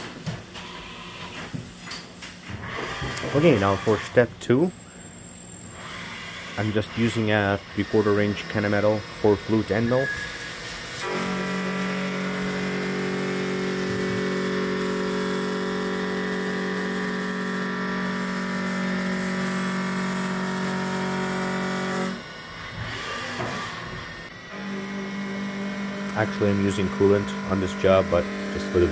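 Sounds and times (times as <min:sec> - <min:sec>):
milling machine cutting metal: 0:02.9 - 0:04.3, 0:05.8 - 0:28.9.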